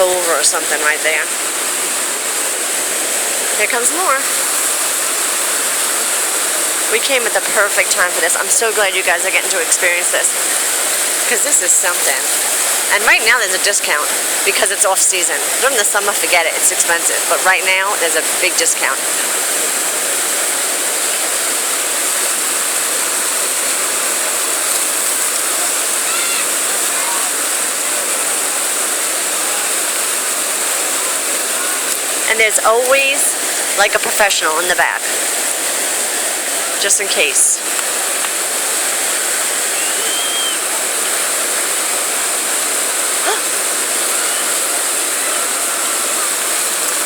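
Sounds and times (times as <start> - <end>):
water rushing over rocks: 0.0 - 47.0.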